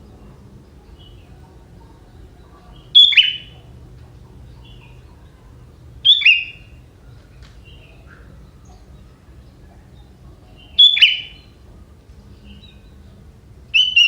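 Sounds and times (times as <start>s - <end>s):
bulbul sharp calls: 0.0s - 11.6s, 13.7s - 14.0s
faint bird chirps: 0.0s - 14.0s.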